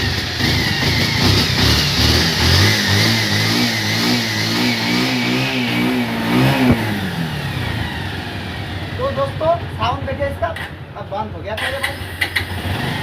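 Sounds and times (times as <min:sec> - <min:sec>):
motorcycle engine running unevenly: 0:00.0 - 0:11.0.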